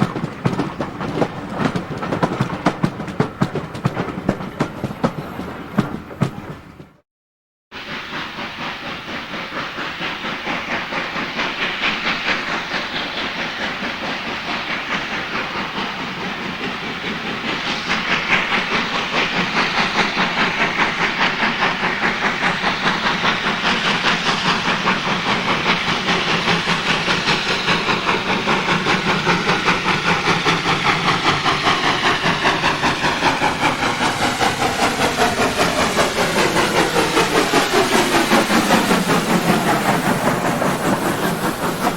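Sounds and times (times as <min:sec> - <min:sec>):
steam locomotive exhaust beating: 0:00.0 - 0:07.0, 0:07.8 - 0:41.9
steam hissing: 0:07.8 - 0:41.9.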